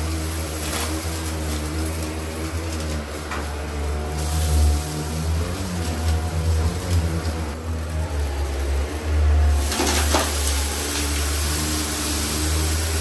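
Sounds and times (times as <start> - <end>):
vacuum cleaner on carpet: 0.0 - 13.0.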